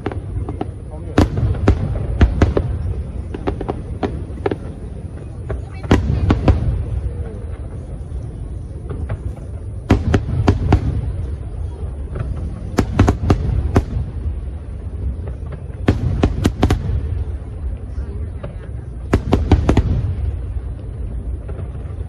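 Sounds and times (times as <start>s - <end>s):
continuous low rumble: 0.0s - 22.0s
fireworks bursting with sharp bangs: 0.0s - 22.0s.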